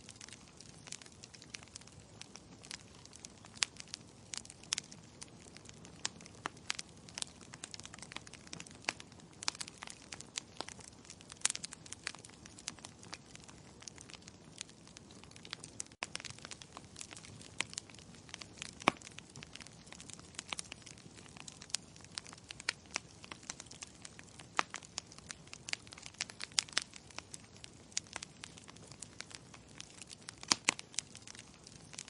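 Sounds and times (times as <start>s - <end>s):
logs crackling in a fireplace: 0.0s - 32.0s.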